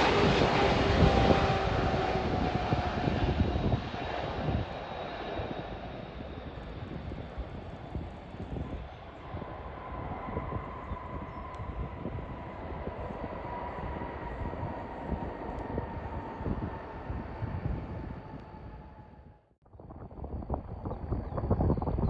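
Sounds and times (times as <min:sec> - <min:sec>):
jet airliner engines rumbling: 0:00.0 - 0:22.0.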